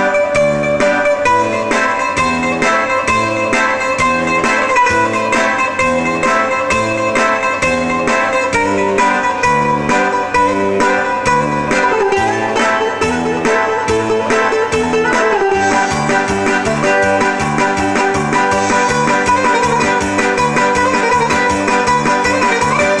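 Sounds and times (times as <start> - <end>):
bouzouki playing: 0.0 - 23.0.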